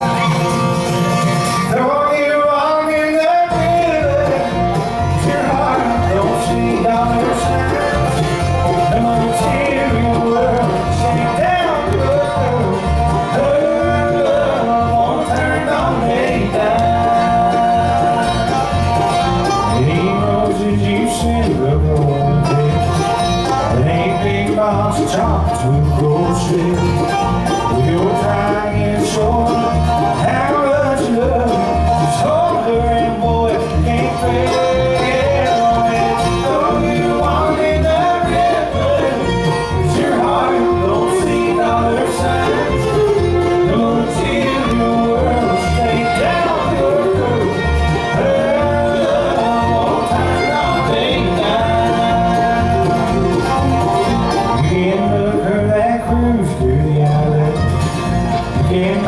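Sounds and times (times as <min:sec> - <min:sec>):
bluegrass band playing: 0:00.0 - 0:59.0.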